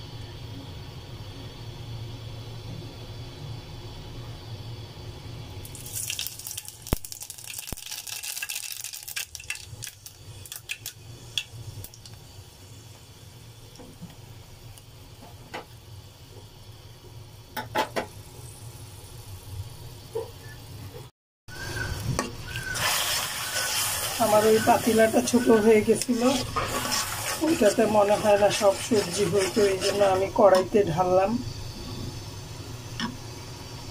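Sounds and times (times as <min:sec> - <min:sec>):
hot oil sizzling: 0:00.0 - 0:33.9.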